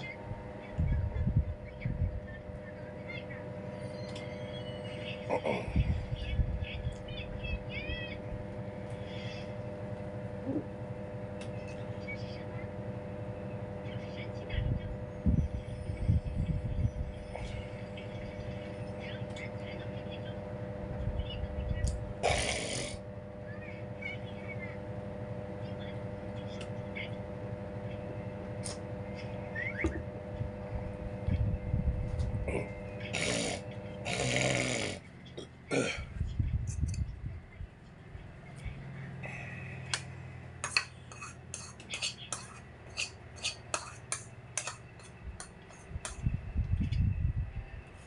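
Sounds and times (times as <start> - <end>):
droning room hum: 0.0 - 48.0.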